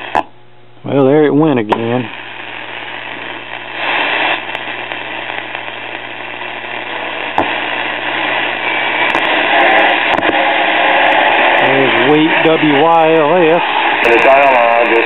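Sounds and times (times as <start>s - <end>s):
crackles: 0.0s - 15.0s
radio speaker hiss and hum: 0.0s - 15.0s.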